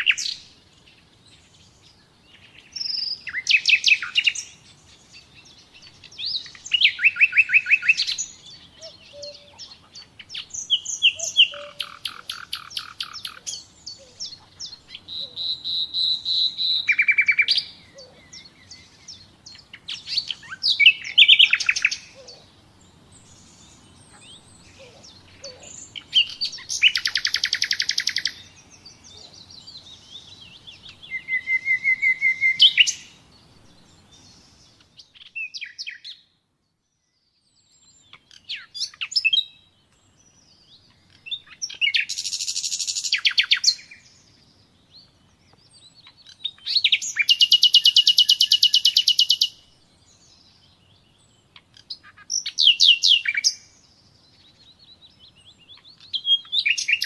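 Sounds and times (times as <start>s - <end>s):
nightingale singing: 0.0s - 57.0s.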